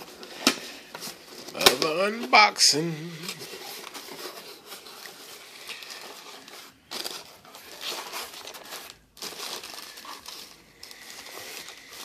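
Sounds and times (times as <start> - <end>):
plastic packing crinkling: 0.0 - 12.0.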